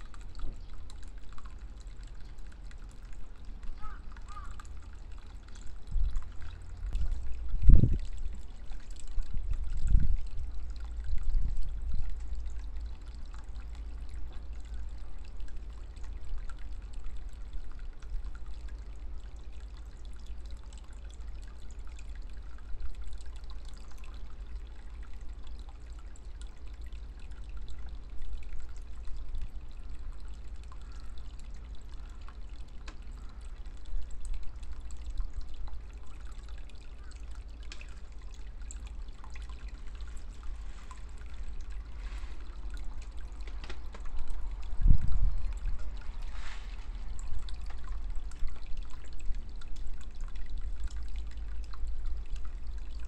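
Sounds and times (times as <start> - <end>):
water trickling into pond: 0.0 - 53.0.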